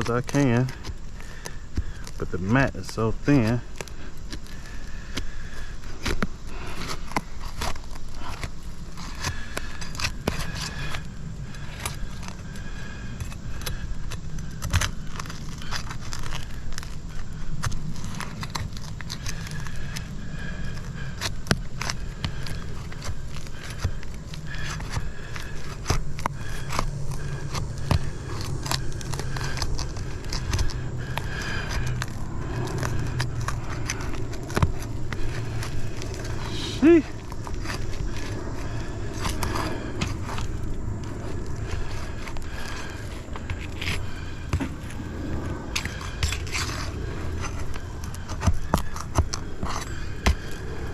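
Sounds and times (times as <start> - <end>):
roof shingles scraping and crackling: 0.0 - 50.9
steady low hum: 0.0 - 50.9.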